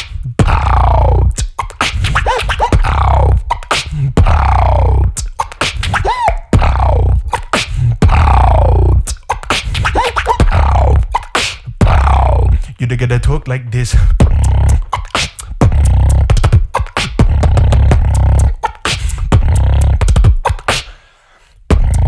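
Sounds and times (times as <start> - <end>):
person beatboxing: 0.0 - 22.0.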